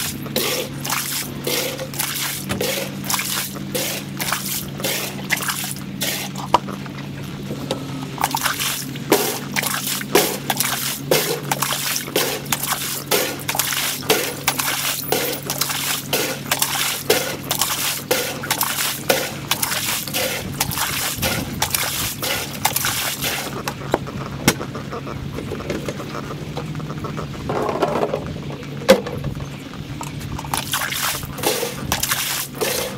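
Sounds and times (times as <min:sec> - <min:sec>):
steady low hum: 0:00.0 - 0:27.6
water trickling and sloshing: 0:00.0 - 0:32.9.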